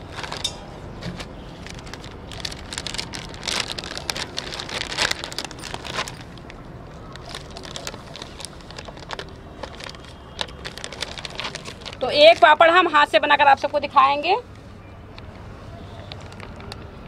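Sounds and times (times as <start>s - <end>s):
plastic sheet crinkling: 0.0s - 0.6s, 1.2s - 13.8s, 15.9s - 17.0s.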